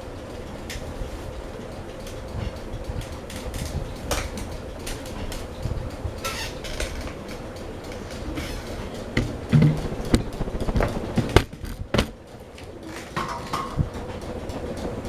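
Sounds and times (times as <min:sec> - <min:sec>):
ceiling fan motor hum: 0:00.0 - 0:15.0
clicks and ticks: 0:00.2 - 0:15.0.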